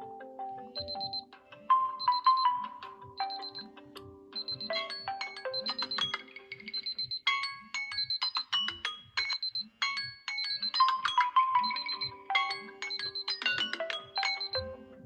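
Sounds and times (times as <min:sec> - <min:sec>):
electronic ringtone melody: 0:00.0 - 0:15.0.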